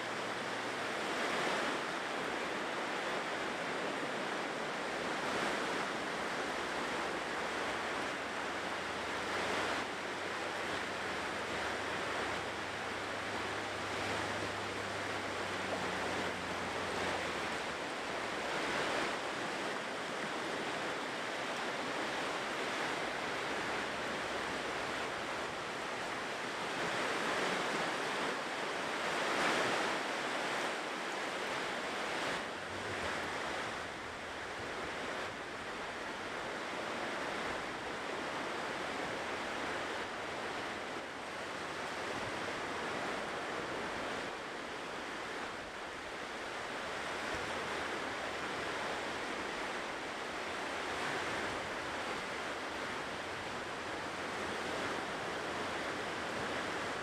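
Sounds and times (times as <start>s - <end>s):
ocean surf washing on shore: 0.0s - 57.0s.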